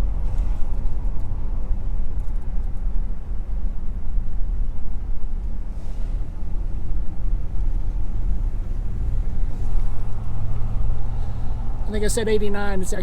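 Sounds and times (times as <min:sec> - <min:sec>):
pickup truck engine and road rumble: 0:00.0 - 0:13.0.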